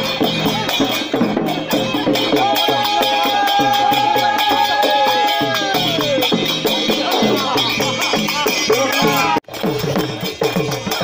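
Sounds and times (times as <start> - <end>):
fast percussion beat: 0.0 - 11.0
folk dance music: 0.0 - 11.0.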